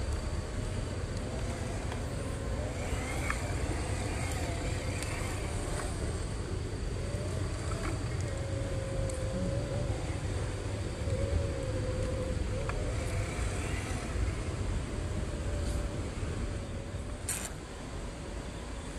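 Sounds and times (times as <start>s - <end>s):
electric motor and gearbox whining: 0.0s - 18.9s
steady low rumble: 0.0s - 18.9s.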